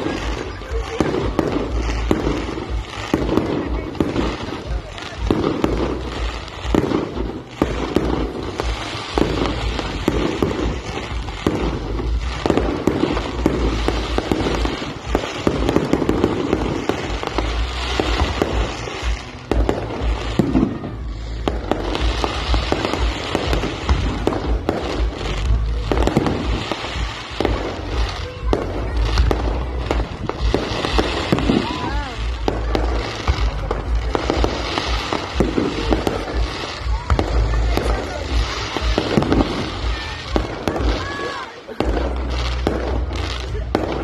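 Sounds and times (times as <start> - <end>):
firework bangs: 0.0 - 44.0
fireworks crackling: 0.0 - 44.0.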